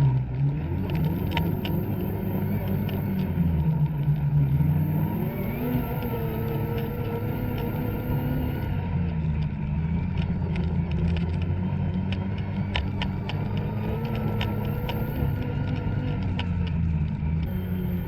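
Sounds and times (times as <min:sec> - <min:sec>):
snowmobile engine running: 0:00.0 - 0:18.0
sharp clicks: 0:00.8 - 0:08.8, 0:10.1 - 0:18.0.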